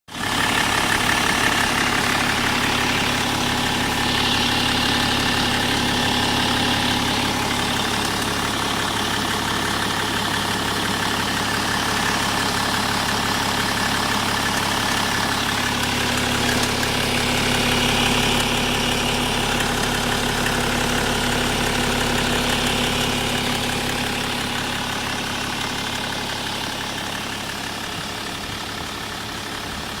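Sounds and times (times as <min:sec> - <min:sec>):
car engine low hum: 0:00.1 - 0:30.0.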